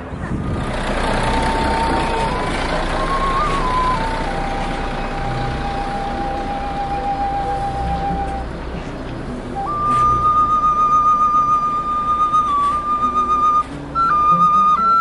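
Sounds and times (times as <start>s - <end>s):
idling bus engines rumble: 0.0s - 15.0s
wind instrument slow melody: 0.4s - 15.0s.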